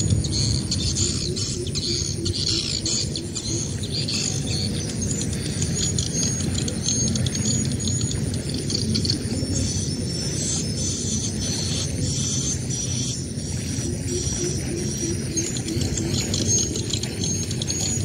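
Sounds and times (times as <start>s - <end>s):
birds chirping: 0.0s - 18.0s
low rumbling noise: 0.0s - 18.0s.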